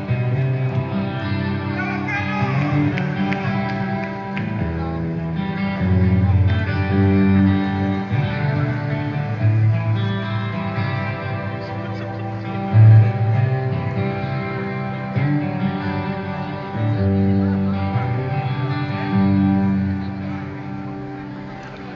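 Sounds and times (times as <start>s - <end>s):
live rock guitar music: 0.0s - 21.9s.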